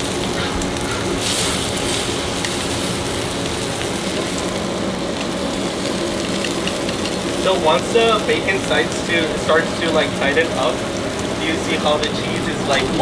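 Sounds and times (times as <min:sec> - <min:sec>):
bacon sizzling on a griddle: 0:00.0 - 0:13.0.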